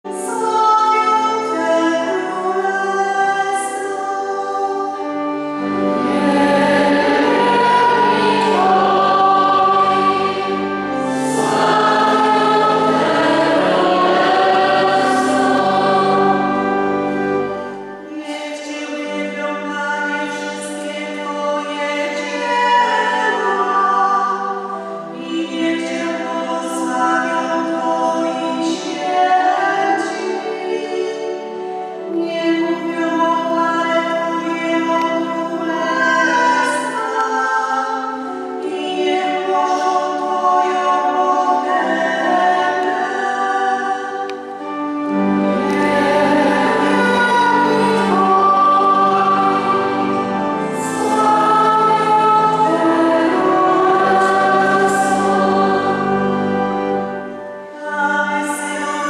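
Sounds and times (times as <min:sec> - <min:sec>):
sustained accompaniment: 0:00.1 - 0:59.0
voices singing a sacred song: 0:00.2 - 0:31.4, 0:32.1 - 0:59.0.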